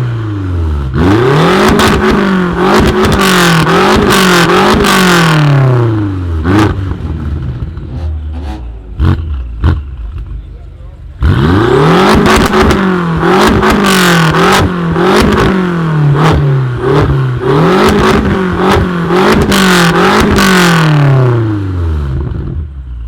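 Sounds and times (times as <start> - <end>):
car engine revving: 0.0 - 22.7.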